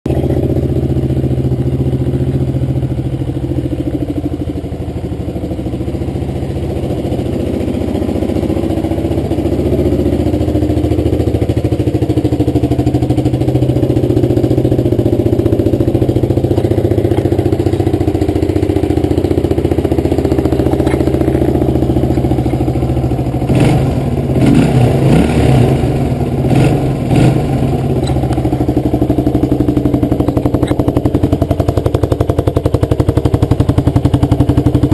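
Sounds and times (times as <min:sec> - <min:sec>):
engine throttle blips: 0:00.1 - 0:34.9
motorcycle engine idling: 0:00.1 - 0:34.9.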